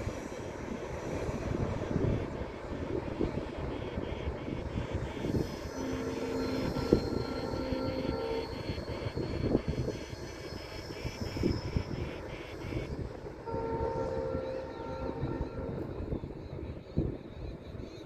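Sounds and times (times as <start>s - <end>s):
steady tone: 0.0s - 17.1s
distant train rumbling past: 0.0s - 18.0s.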